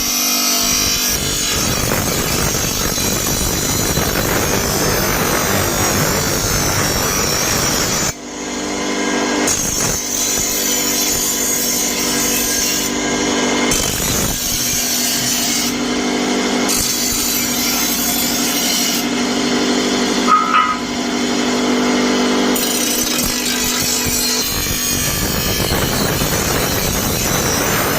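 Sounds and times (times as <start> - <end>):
power tool grinding metal: 0.0 - 27.9.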